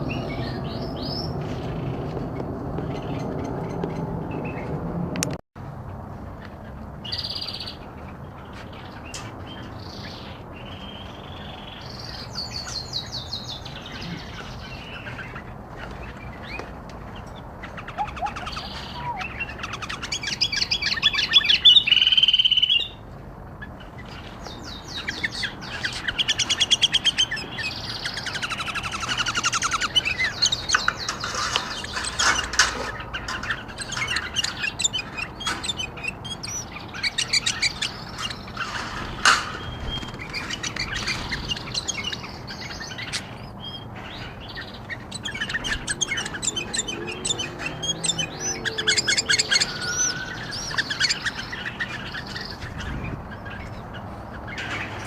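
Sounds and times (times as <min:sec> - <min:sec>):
birds chirping and calling: 0:00.0 - 0:04.8, 0:06.4 - 0:55.0.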